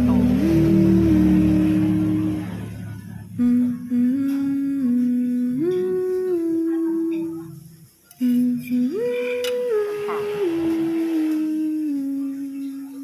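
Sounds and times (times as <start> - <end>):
woman humming a tune: 0.0 - 13.0.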